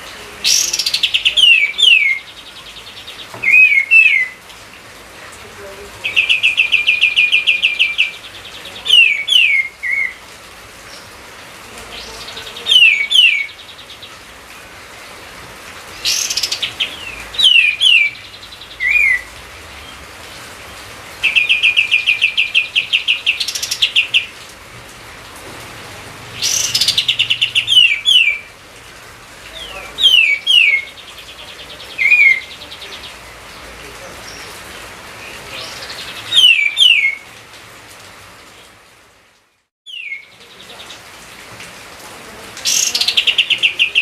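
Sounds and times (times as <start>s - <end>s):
songbird singing: 0.0s - 24.6s, 25.2s - 37.5s, 39.8s - 41.4s, 42.2s - 44.0s.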